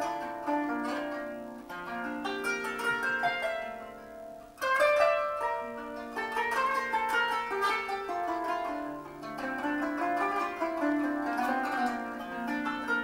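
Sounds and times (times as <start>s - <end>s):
plucked zither notes: 0.0s - 13.0s.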